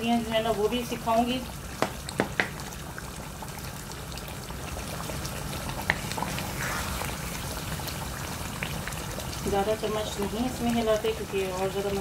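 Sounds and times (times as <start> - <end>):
curry bubbling in a pot: 0.0 - 12.0.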